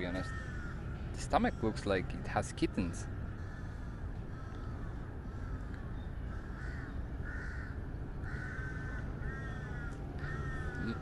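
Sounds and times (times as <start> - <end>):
bird harsh calls: 0.0 - 11.0.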